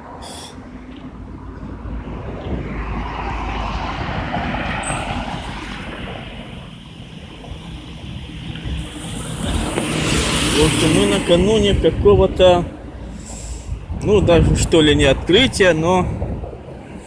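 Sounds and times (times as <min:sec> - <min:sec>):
gusty wind on microphone: 0:00.0 - 0:17.0.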